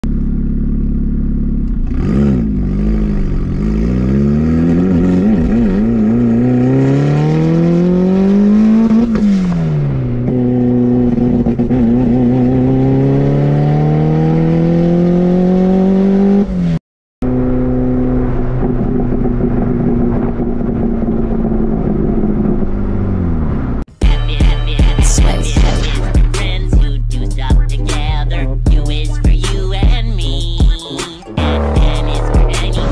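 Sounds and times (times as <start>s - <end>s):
car engine accelerating: 0.0s - 32.9s.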